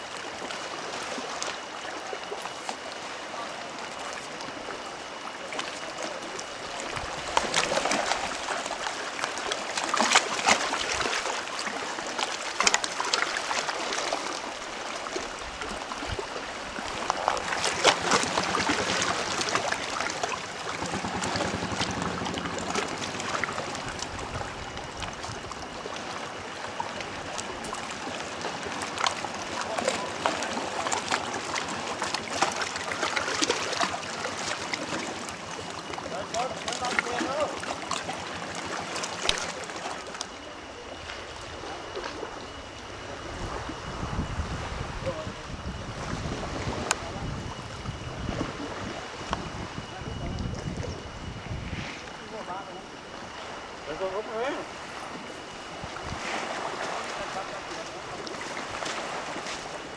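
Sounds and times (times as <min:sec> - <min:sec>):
seawater sloshing and splashing: 0:00.0 - 0:59.9.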